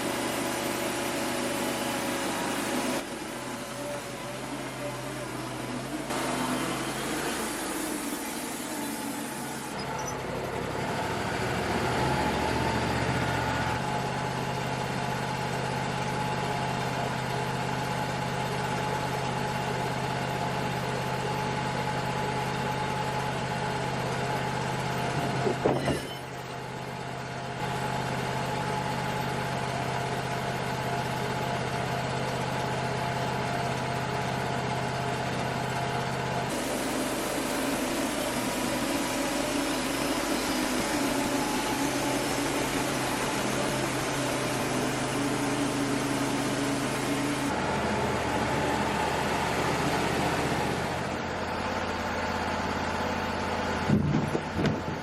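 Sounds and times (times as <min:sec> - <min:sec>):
sawmill clatter: 0:00.0 - 0:19.9, 0:21.2 - 0:55.0
band sawmill running: 0:00.0 - 0:55.0.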